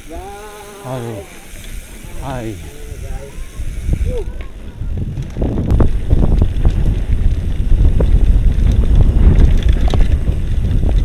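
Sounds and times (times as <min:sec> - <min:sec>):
bike rattling and clattering: 0:00.0 - 0:11.0
wind buffeting microphone: 0:01.7 - 0:11.0.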